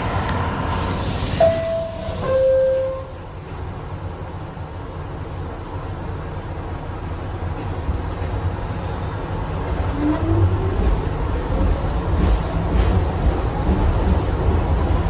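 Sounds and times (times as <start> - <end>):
subway traction motors whining: 0.0 - 15.0
wheels rumbling on track: 0.0 - 15.0.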